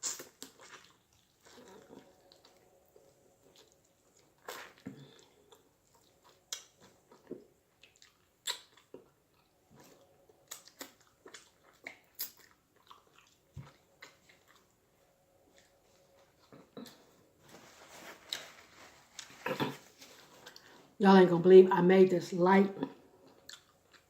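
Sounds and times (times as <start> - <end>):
person chewing food: 0.0 - 17.2, 19.1 - 20.8, 23.1 - 24.0.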